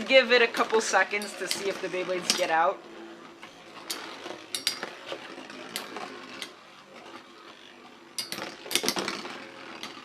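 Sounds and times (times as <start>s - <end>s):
spinning tops whirring: 0.0s - 10.0s.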